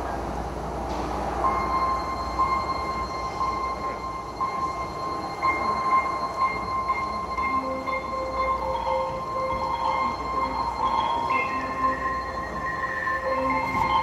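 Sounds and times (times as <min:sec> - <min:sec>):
low murmur of voices: 0:00.0 - 0:14.0
high held musical tone: 0:01.4 - 0:14.0.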